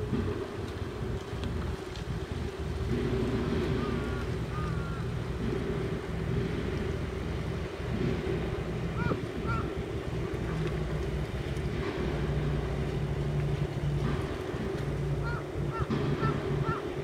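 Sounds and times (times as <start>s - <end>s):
boat engines droning: 0.0s - 17.0s
wind rumbling on microphone: 0.0s - 17.0s.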